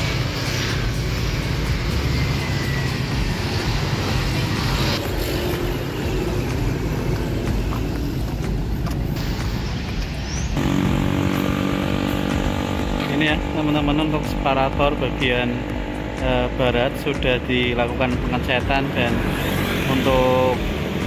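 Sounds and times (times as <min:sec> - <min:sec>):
motorbikes and scooters passing: 0:00.0 - 0:21.0.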